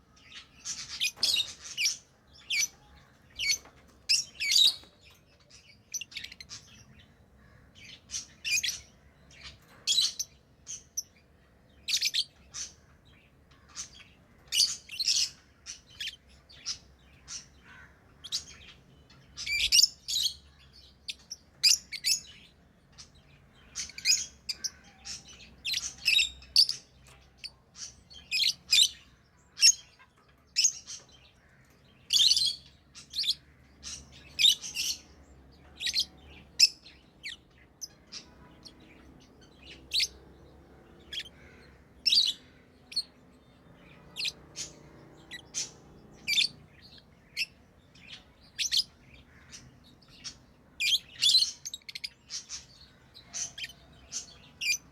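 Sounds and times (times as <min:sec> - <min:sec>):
lovebirds chirping: 0:00.0 - 0:54.9.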